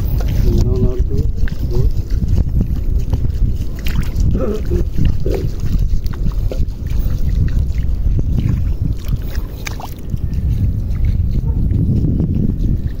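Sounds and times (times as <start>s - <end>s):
bare feet splashing in water: 0.0s - 11.6s
wind buffeting microphone: 0.0s - 13.0s.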